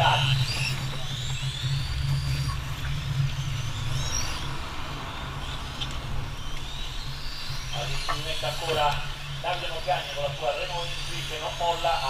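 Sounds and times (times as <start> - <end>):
low hum: 0.0 - 12.0
rc car electric motors whining: 0.0 - 12.0.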